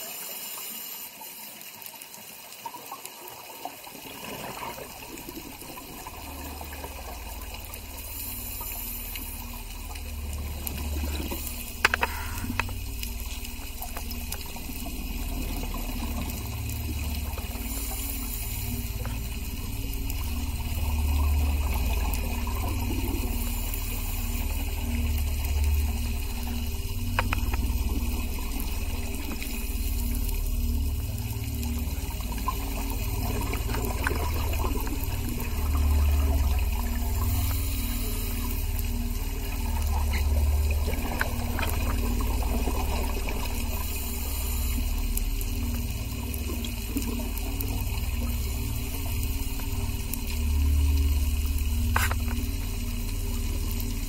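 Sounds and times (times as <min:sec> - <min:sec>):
regulator bubbles bursting: 0:03.9 - 0:54.0
low underwater rumble: 0:04.2 - 0:54.0.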